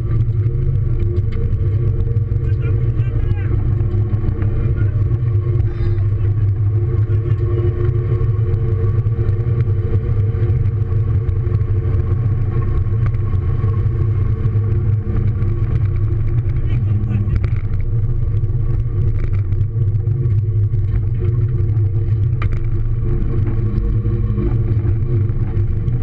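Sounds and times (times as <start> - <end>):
car engine and tyre drone: 0.0 - 26.0.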